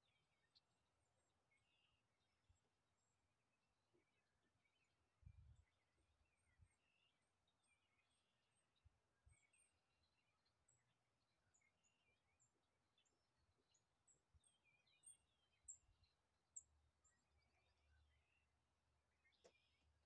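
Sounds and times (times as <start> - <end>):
small birds chirping and warbling: 0.0 - 20.0.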